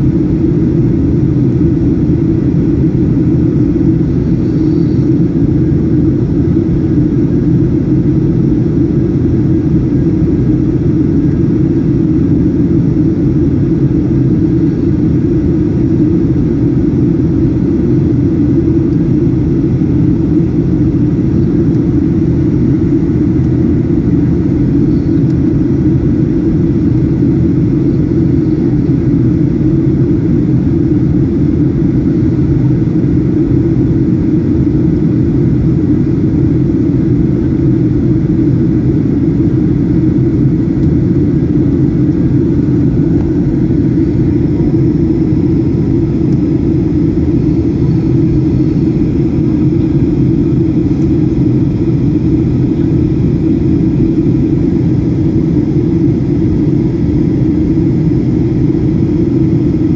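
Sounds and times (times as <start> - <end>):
aircraft cabin noise: 0.0 - 59.9.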